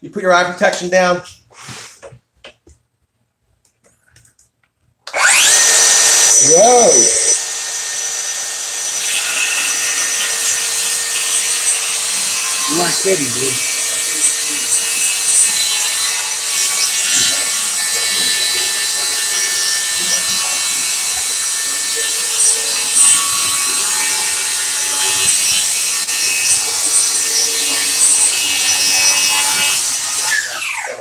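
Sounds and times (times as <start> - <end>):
circular saw cutting: 5.1 - 31.0
saw motor spinning down: 5.1 - 31.0.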